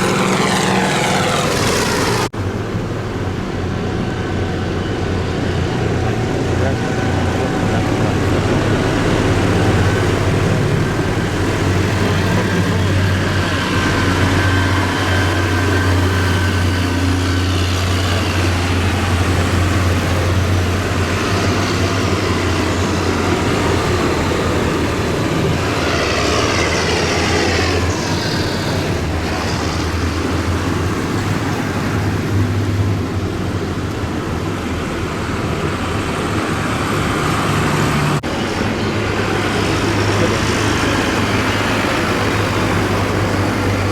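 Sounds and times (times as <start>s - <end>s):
road noise: 0.0s - 43.9s
tractor engines humming: 0.0s - 43.9s.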